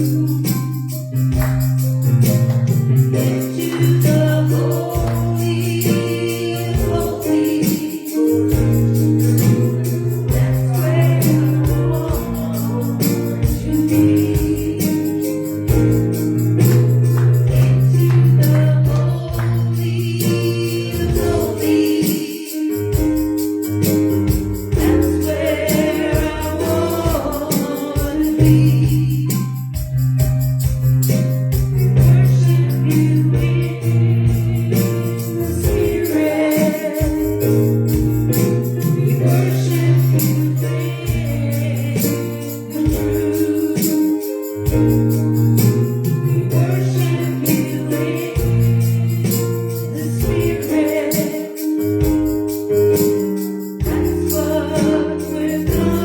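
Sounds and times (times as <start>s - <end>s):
shaken tambourine: 0.0s - 56.0s
voices singing: 3.0s - 23.2s, 24.7s - 29.4s, 31.8s - 53.1s, 53.8s - 56.0s.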